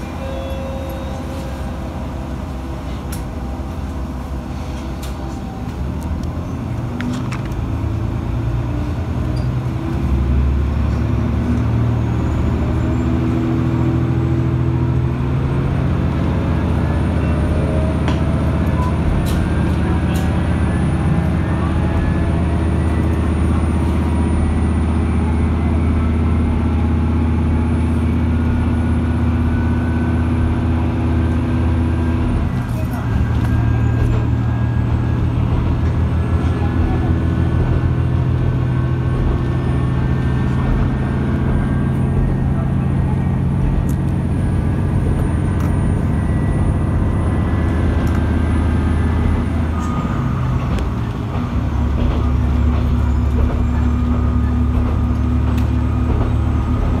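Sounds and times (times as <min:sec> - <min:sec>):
diesel railcar engine: 0:00.0 - 0:57.0.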